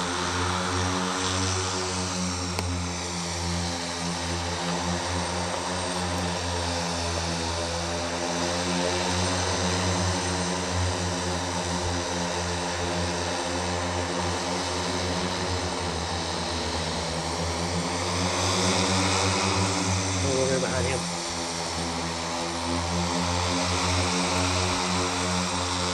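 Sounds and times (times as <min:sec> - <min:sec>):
electric aircraft propellers droning: 0:00.0 - 0:25.9.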